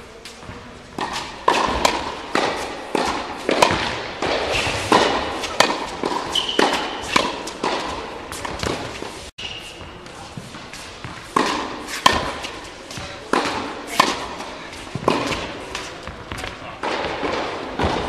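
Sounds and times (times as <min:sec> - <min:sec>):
tennis balls struck with rackets: 0:00.0 - 0:18.0
tennis balls bouncing on hard court: 0:00.2 - 0:18.0.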